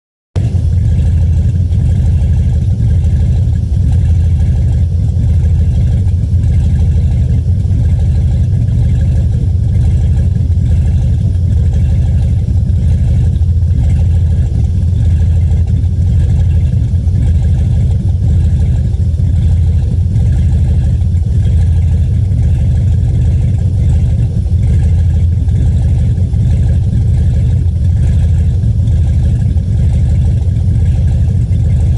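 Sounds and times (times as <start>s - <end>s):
engine running with misfire: 0.4s - 31.9s.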